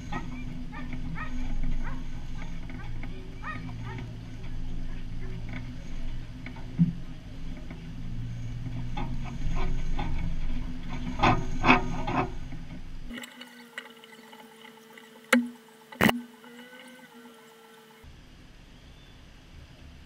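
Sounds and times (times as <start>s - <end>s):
steady hum: 0.0s - 18.2s
engine and wind rumble: 0.0s - 20.0s.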